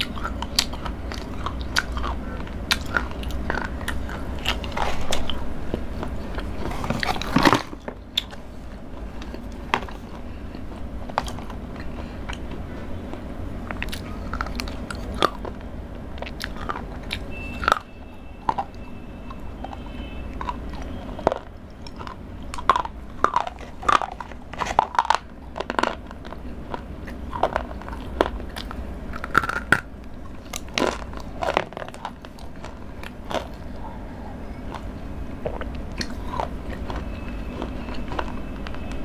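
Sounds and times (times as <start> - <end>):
crunchy food chewing: 0.0 - 39.0.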